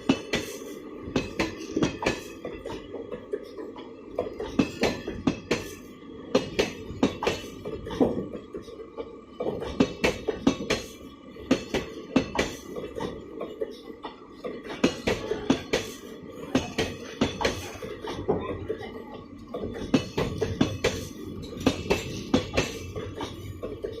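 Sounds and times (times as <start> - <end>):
steady train rumble: 0.0 - 24.0
train wheels clattering: 0.0 - 24.0.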